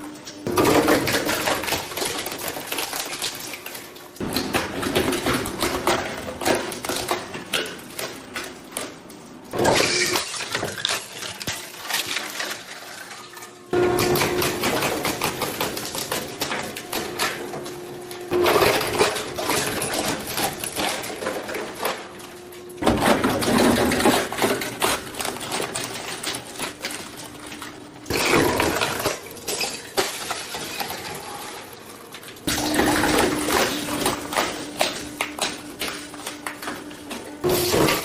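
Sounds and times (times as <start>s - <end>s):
shredder crunching plastic: 0.0s - 38.0s.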